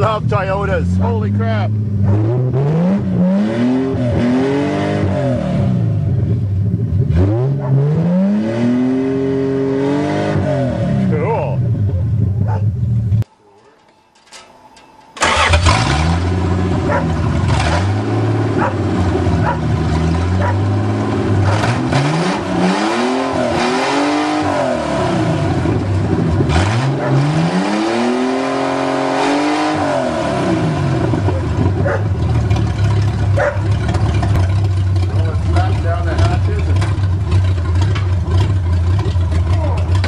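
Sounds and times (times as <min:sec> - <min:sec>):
car engine revving: 0:00.0 - 0:13.2, 0:15.2 - 0:40.0.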